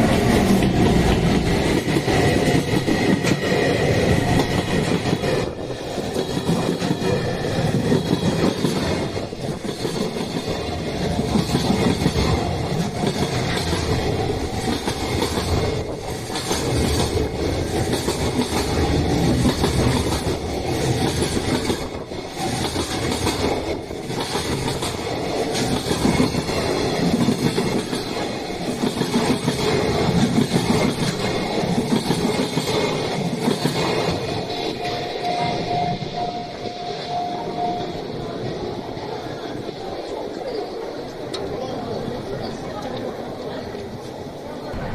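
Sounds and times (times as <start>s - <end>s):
train wheel and rail noise: 0.0s - 44.9s.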